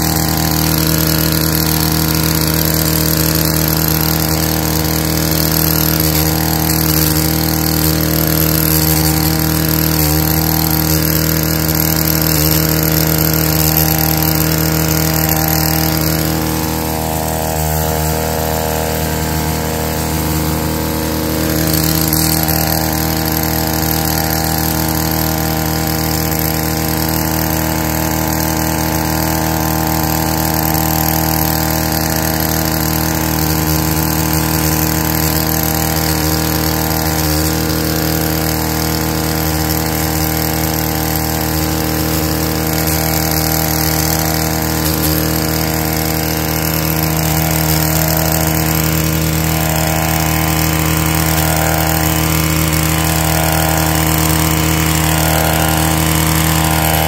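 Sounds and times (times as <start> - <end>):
small engine running steadily: 0.0 - 57.0.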